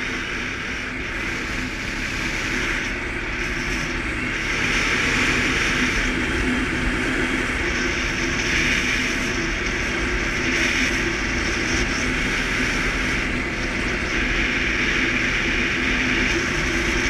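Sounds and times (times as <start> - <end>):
atv engine running: 0.0 - 17.0
road noise: 0.0 - 17.0
wind noise: 0.0 - 17.0.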